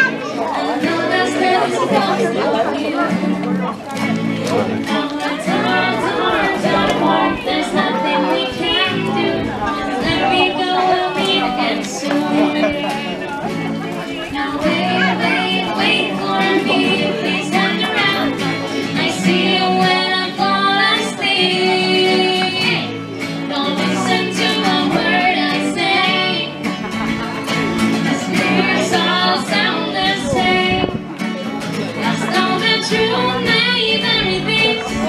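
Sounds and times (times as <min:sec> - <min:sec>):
woman singing: 0:00.0 - 0:03.4, 0:04.0 - 0:26.7, 0:28.0 - 0:31.0, 0:31.9 - 0:35.0
acoustic guitar: 0:00.0 - 0:35.0.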